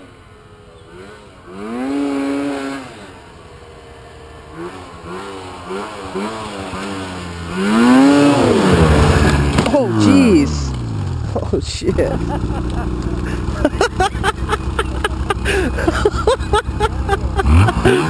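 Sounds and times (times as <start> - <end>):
snowmobile engine revving: 0.8 - 3.4, 4.4 - 18.0.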